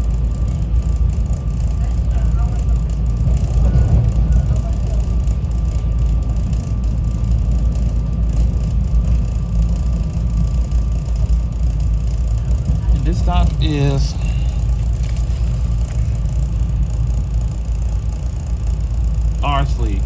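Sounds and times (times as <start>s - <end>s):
electric train rumbling: 0.0s - 20.0s
faint whine: 0.0s - 20.0s.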